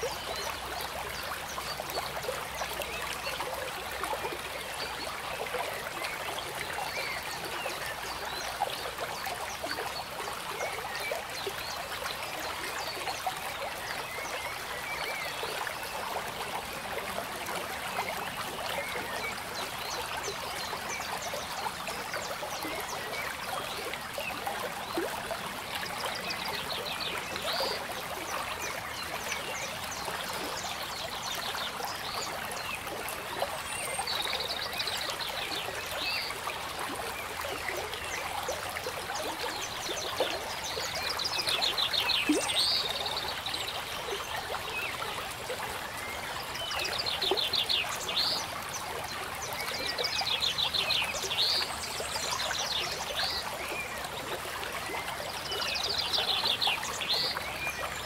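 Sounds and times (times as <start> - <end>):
trickling water: 0.0 - 58.0.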